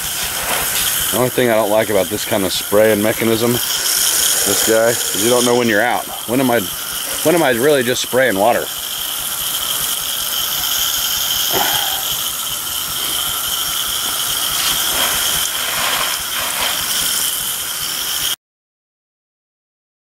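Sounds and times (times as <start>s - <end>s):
hose-end sprayer hissing: 0.0s - 18.4s.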